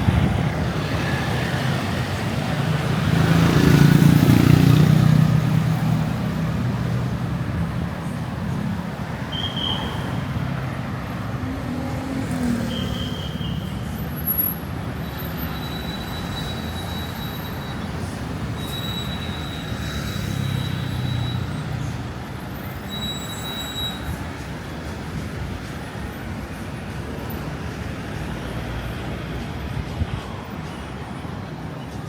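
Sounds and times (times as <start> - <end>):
passing vehicles rumble: 0.0 - 32.0.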